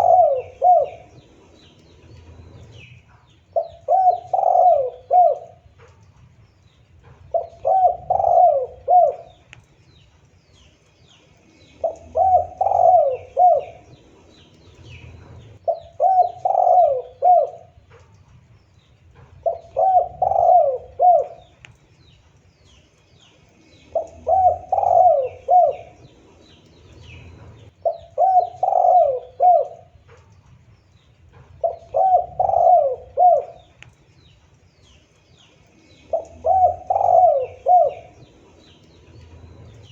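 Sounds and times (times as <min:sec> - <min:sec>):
dove cooing: 0:00.0 - 0:09.6, 0:11.4 - 0:21.7, 0:23.5 - 0:34.0, 0:34.8 - 0:39.9
small birds chirping: 0:00.0 - 0:39.9.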